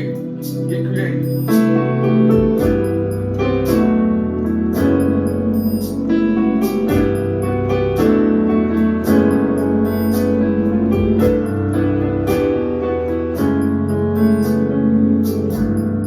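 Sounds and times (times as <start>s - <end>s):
electric piano chords: 0.0s - 16.0s
low bass notes: 0.0s - 16.0s.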